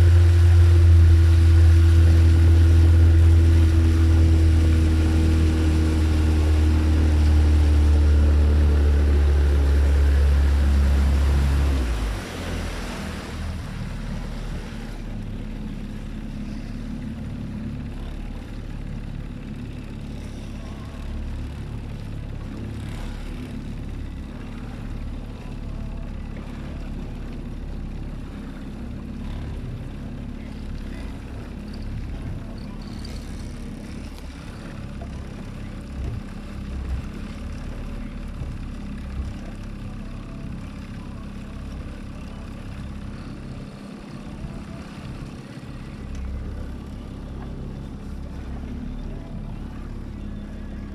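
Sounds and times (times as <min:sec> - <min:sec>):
outboard motor running: 0:00.0 - 0:50.9.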